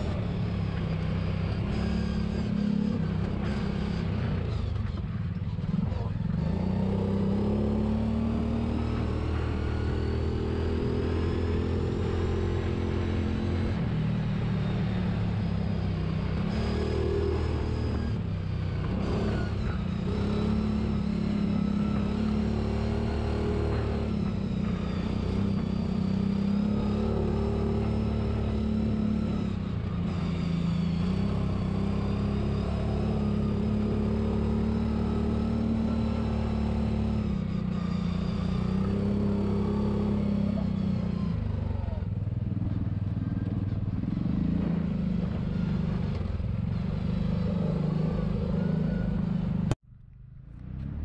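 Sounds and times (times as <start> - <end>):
utility vehicle engine running: 0.0 - 51.0.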